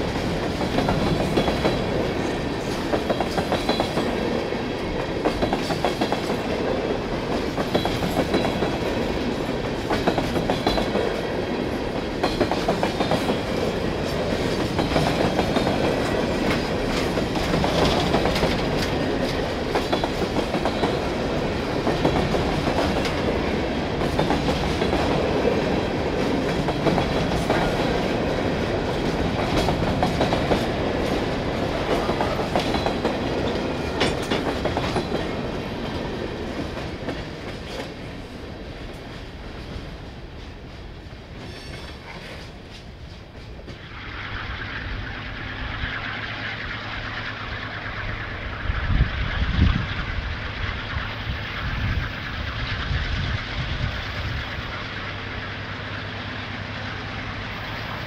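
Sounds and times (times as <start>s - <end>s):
train wheels clickety-clack: 0.0s - 44.0s, 45.3s - 58.0s
train clanks: 0.0s - 58.0s.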